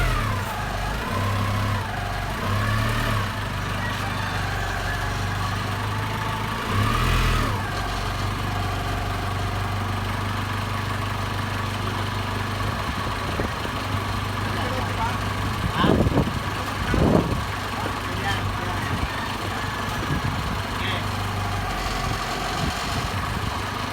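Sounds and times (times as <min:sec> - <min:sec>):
forklift engine idling and revving: 0:00.0 - 0:23.9.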